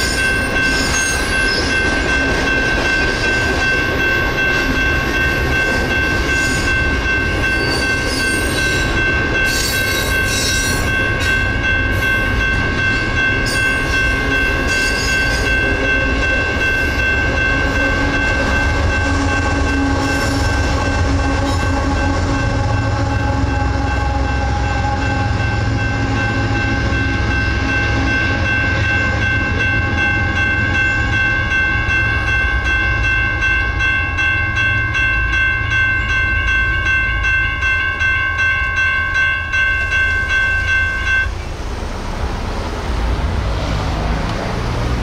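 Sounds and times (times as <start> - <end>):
crossing bells ringing: 0.0 - 41.9
low rumble of passing train: 0.0 - 45.0
road traffic noise: 0.0 - 45.0.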